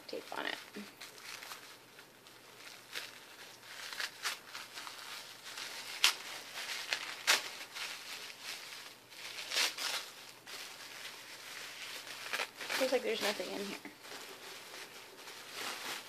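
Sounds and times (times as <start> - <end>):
tissue paper rustling and crinkling: 0.1 - 16.0.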